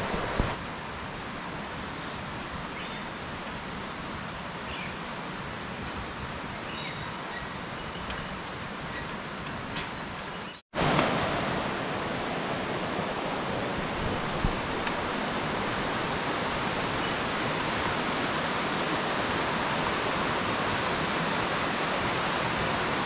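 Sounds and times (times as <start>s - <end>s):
rainforest rushing hiss: 0.0s - 8.4s, 10.8s - 23.0s.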